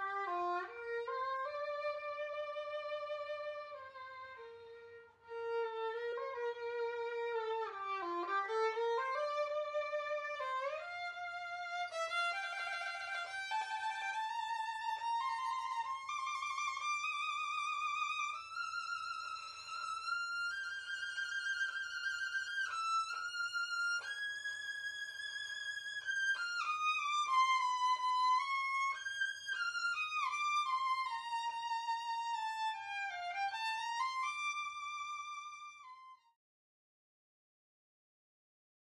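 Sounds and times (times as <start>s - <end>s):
solo violin melody: 0.0s - 36.4s.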